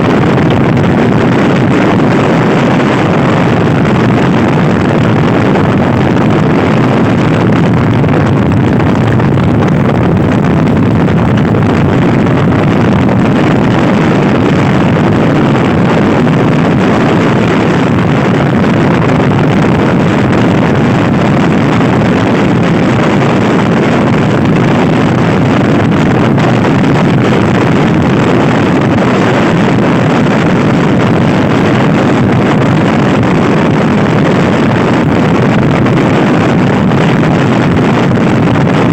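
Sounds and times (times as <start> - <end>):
wind buffeting the microphone: 0.0 - 38.9.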